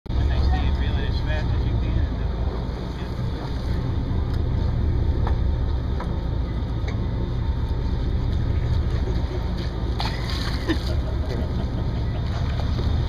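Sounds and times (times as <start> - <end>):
wind: 0.0 - 13.0
boat motor rumbling: 0.1 - 13.0
water noise: 0.1 - 13.0.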